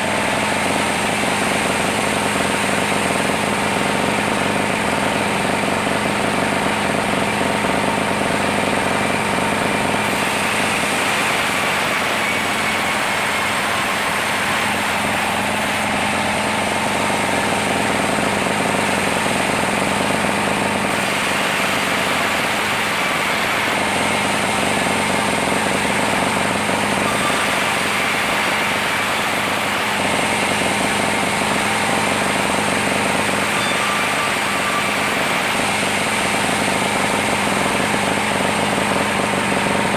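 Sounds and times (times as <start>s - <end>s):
sawmill saw humming: 0.0s - 39.9s.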